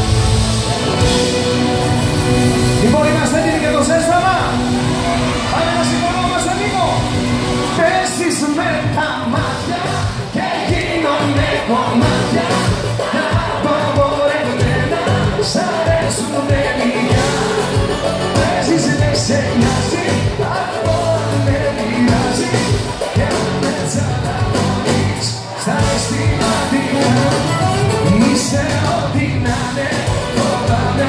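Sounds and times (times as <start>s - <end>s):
drums: 0.0s - 31.0s
electric guitars: 0.0s - 31.0s
live pop band music: 0.0s - 31.0s.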